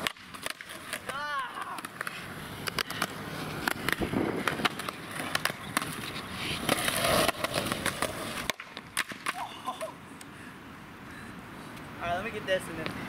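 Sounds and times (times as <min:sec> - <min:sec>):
skateboard wheels rolling on asphalt: 0:00.0 - 0:13.0.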